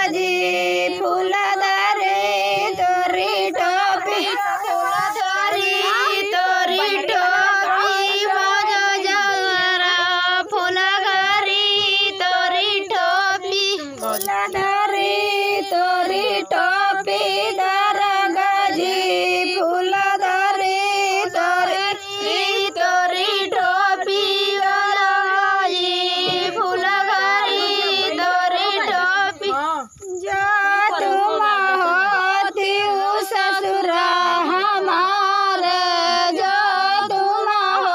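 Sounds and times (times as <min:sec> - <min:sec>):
woman singing a folk song: 0:00.0 - 0:37.9.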